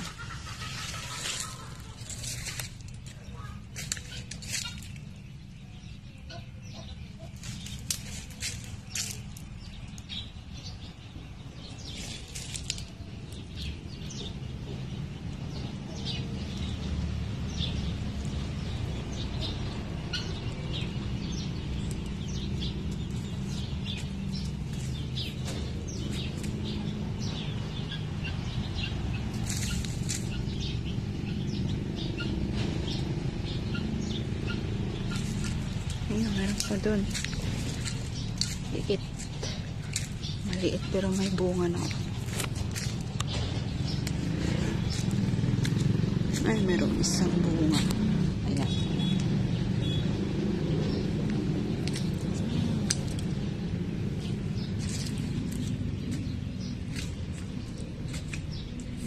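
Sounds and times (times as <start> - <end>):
small birds chirping: 0.0 - 59.0
steady low rumble: 0.0 - 59.0.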